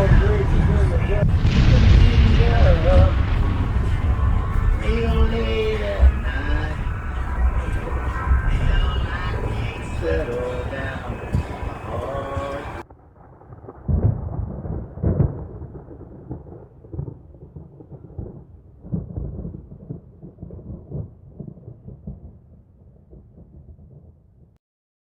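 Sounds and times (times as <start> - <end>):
thunder rumbling: 0.0 - 24.1.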